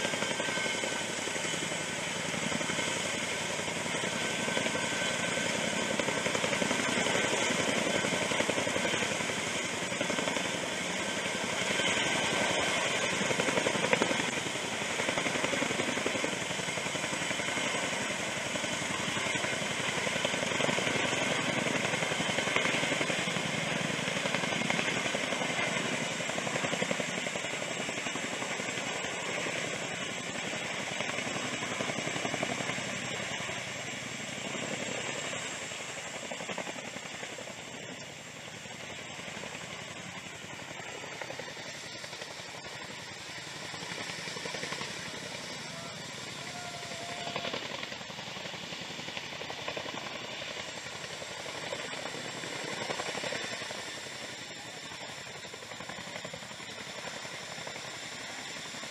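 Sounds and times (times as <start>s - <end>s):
helicopter rotor chop: 0.0s - 58.9s.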